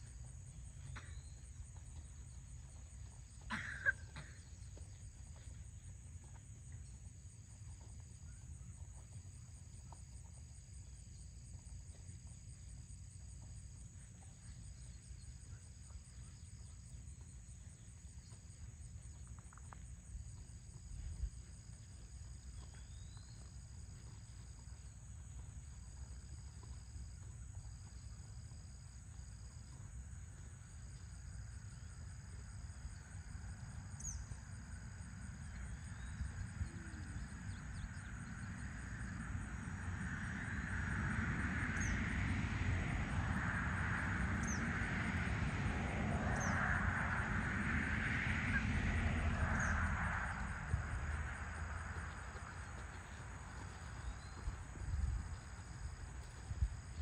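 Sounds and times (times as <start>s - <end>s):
crickets trilling: 0.0s - 57.0s
low outdoor rumble: 0.0s - 57.0s.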